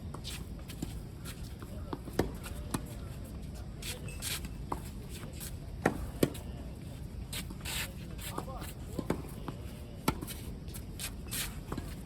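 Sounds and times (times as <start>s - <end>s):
shoes scuffing on court: 0.1s - 6.5s, 7.3s - 12.0s.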